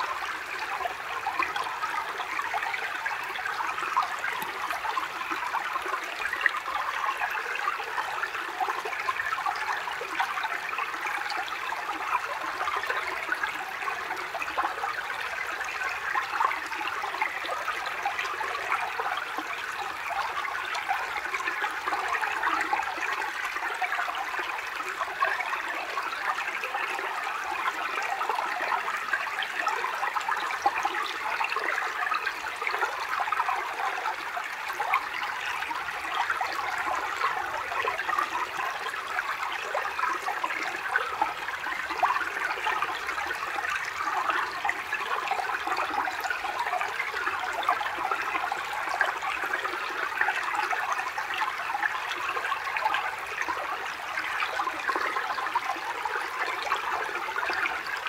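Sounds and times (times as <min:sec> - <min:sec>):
forest stream babbling: 0:00.0 - 0:58.0.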